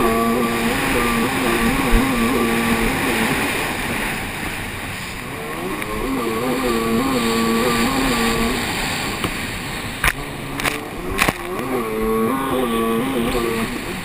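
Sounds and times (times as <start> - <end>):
jet ski engine running: 0.0 - 14.0
rush of wind and spray: 0.0 - 14.0.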